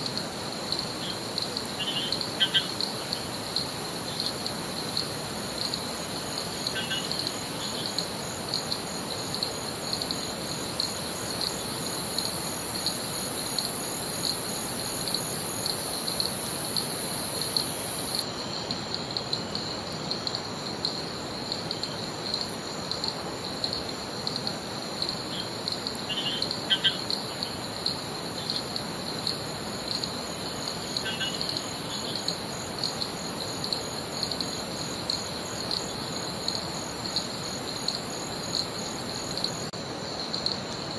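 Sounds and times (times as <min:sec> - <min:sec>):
insects chirping: 0:00.0 - 0:40.9.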